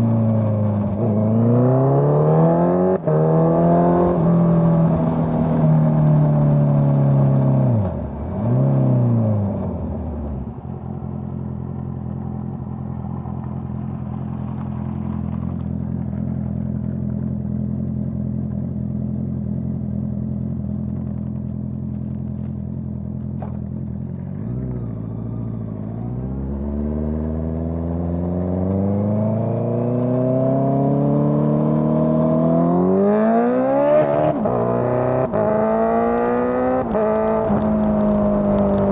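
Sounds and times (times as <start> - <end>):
motorcycle engine revving: 0.0 - 10.6, 11.3 - 38.9.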